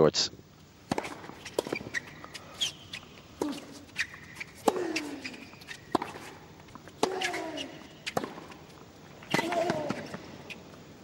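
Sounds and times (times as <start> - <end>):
rackets striking tennis ball: 0.8 - 10.6.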